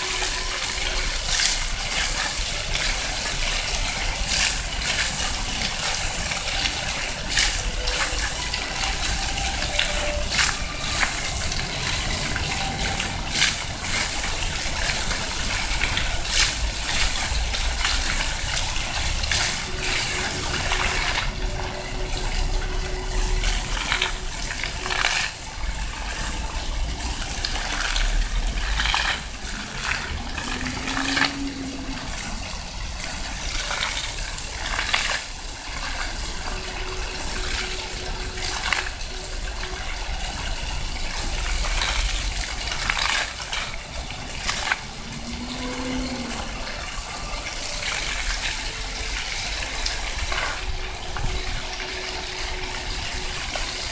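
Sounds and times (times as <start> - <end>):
water jets splashing on stone: 0.0 - 53.9.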